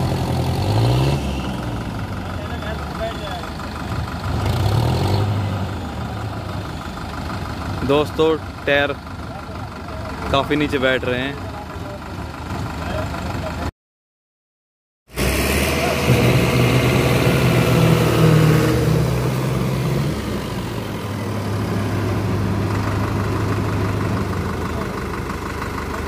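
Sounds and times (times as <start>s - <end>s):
tractor diesel engines running: 0.0s - 13.7s, 15.1s - 26.0s.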